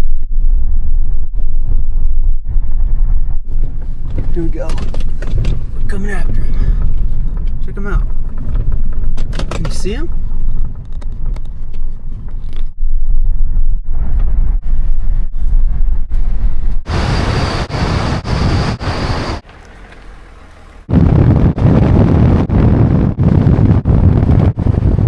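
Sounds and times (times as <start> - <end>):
wind buffeting microphone: 0.0 - 25.0
truck engine rumbling: 0.6 - 25.0.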